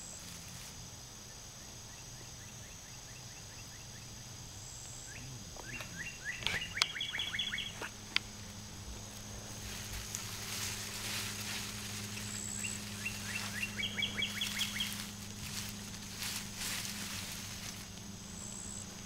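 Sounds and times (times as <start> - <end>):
songbird chirping: 0.0 - 19.0
steady low hum: 0.0 - 19.0.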